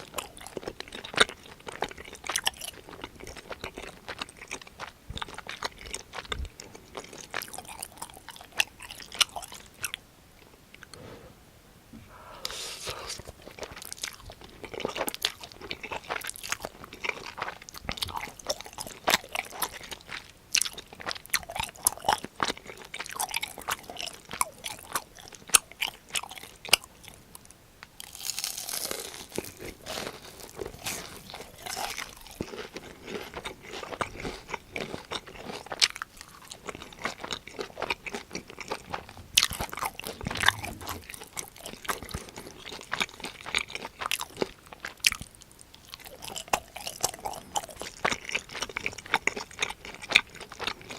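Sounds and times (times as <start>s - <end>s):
crunching bites and chewing: 0.0s - 10.0s, 13.1s - 50.9s.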